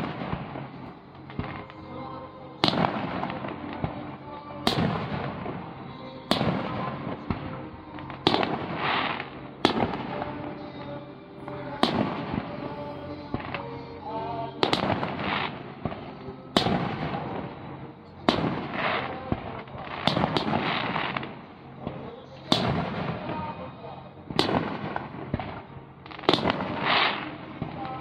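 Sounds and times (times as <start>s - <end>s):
firework shells booming: 2.6s - 13.7s, 14.6s - 17.6s, 18.3s - 23.5s, 24.3s - 28.0s.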